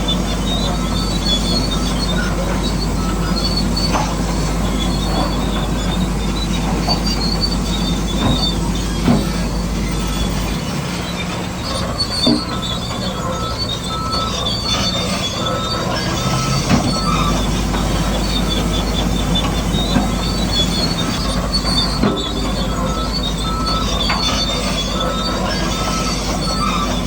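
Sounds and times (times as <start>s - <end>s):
bulldozer tracks squealing and clanking: 0.0s - 27.0s
steady mechanical whir: 0.0s - 27.0s.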